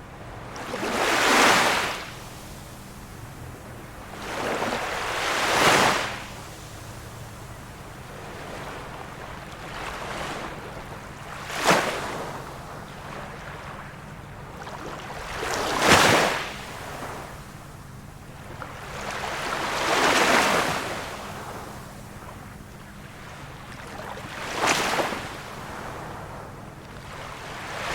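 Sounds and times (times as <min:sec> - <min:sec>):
small waves washing in: 0:00.0 - 0:27.9.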